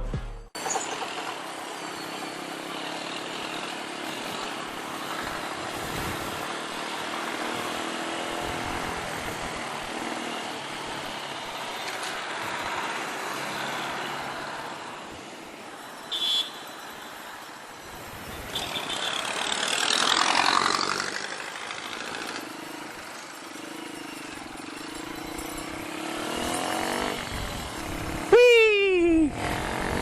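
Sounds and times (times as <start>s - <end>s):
street traffic: 0.5s - 30.0s.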